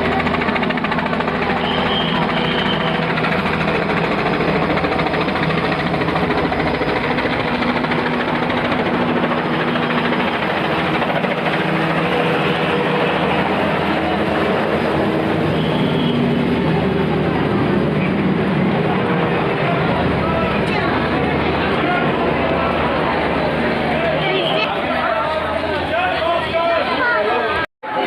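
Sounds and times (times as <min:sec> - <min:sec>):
helicopter flying overhead: 0:00.0 - 0:28.0.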